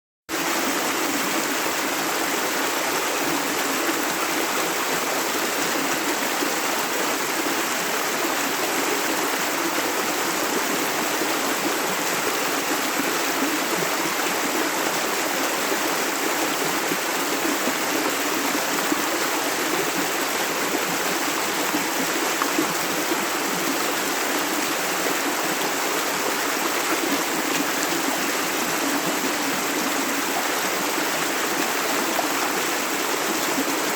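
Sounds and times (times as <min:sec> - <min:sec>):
water flowing over rocks: 0:00.3 - 0:33.9.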